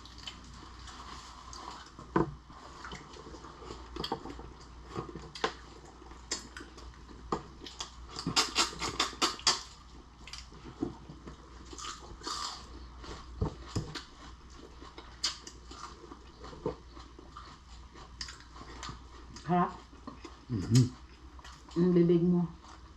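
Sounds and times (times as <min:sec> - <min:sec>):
chewing and crunching: 0:00.0 - 0:22.9.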